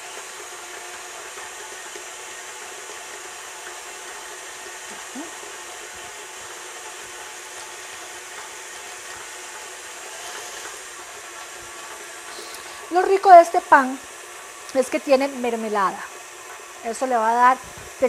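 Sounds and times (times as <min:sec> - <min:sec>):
stand mixer running: 0:00.0 - 0:18.0.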